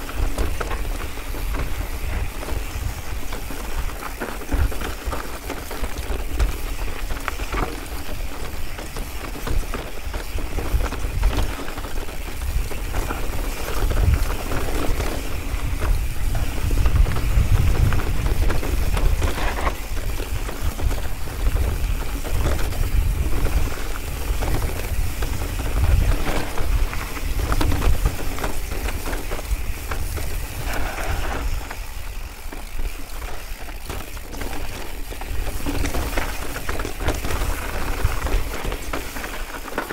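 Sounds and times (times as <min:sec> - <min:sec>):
bike rattling over rocks: 0:00.0 - 0:39.9
wind rumble on microphone: 0:00.0 - 0:39.9.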